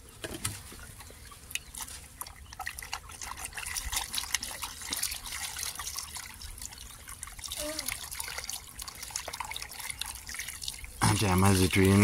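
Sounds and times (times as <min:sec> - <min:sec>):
water poured from a jug: 0:00.0 - 0:12.0
water splashing and dripping: 0:00.0 - 0:12.0.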